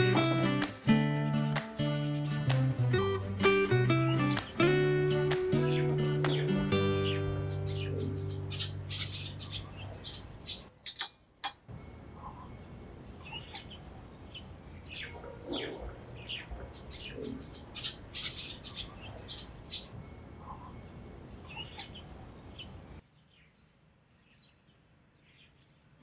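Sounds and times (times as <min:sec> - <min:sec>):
small birds chirping: 0:02.2 - 0:11.0, 0:11.7 - 0:26.0
low outdoor hum: 0:04.9 - 0:26.0.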